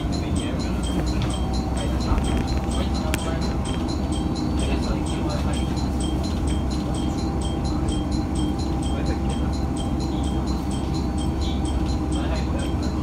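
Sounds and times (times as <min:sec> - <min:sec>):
diesel railcar rumble: 0:00.0 - 0:13.0
level crossing bell ringing: 0:00.0 - 0:13.0.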